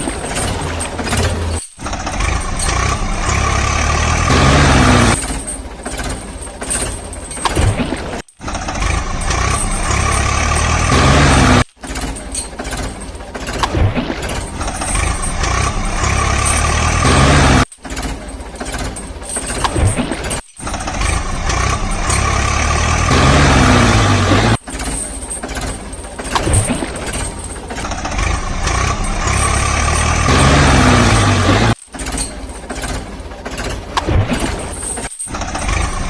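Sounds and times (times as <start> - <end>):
heavy vehicle engines running: 0.0 - 36.0.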